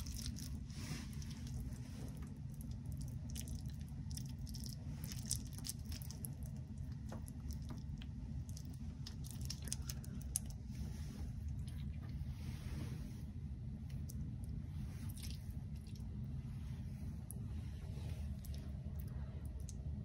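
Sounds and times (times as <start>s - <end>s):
hands squishing sticky rice: 0.0s - 20.0s
low hum: 0.0s - 20.0s.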